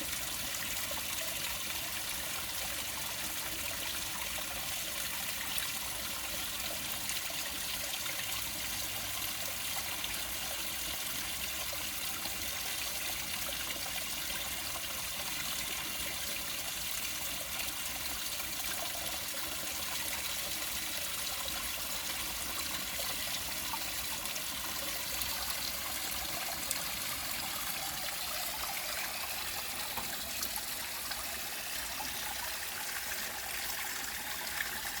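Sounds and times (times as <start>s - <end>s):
small waterfall splashing into pond: 0.0s - 35.0s.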